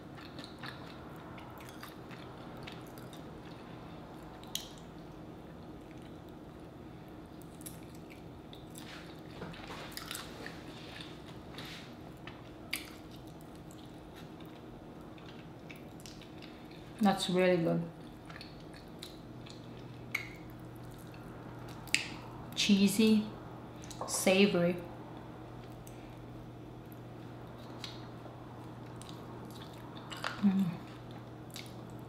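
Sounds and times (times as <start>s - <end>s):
chewing food: 0.0s - 6.7s, 7.4s - 17.0s, 17.9s - 22.2s, 25.1s - 32.0s.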